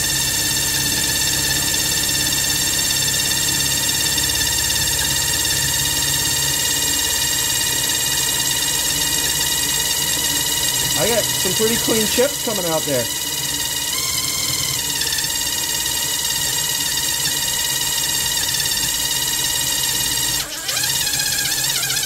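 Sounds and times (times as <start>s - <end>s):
impact driver drilling metal: 0.0s - 22.0s.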